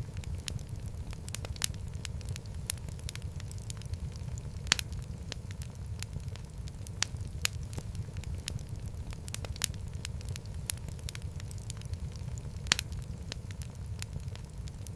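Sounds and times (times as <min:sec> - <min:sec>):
wood fire crackling in fireplace: 0:00.0 - 0:14.9.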